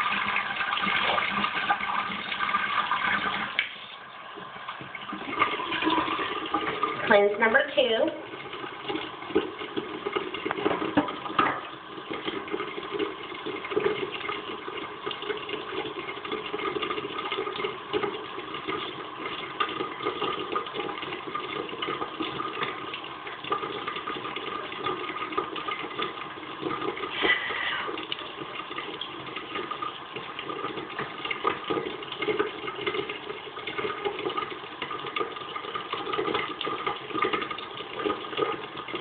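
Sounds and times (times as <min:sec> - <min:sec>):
tap running into sink: 0:00.2 - 0:07.2, 0:08.4 - 0:39.0.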